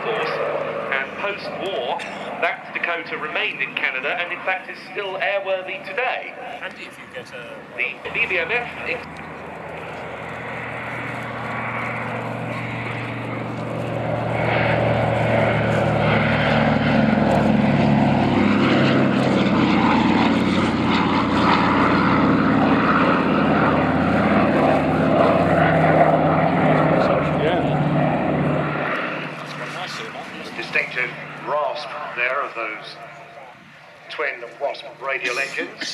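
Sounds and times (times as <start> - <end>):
propeller plane engines passing: 0.0 - 35.9.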